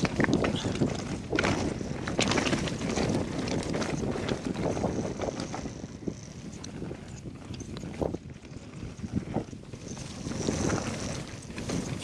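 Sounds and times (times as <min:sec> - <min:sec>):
bike rattling and knocking: 0:00.0 - 0:12.0
bike tyres rolling over stones: 0:00.0 - 0:12.0
wind on microphone: 0:00.0 - 0:12.0.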